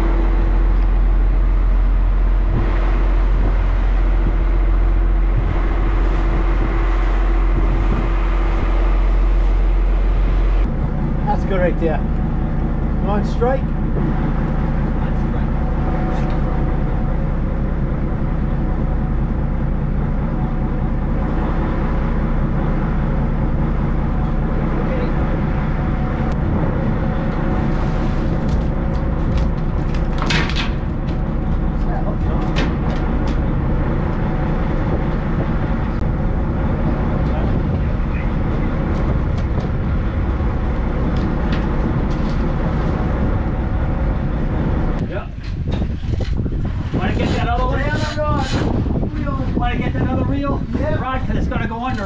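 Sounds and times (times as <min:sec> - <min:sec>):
boat engine droning: 0:00.0 - 0:52.0.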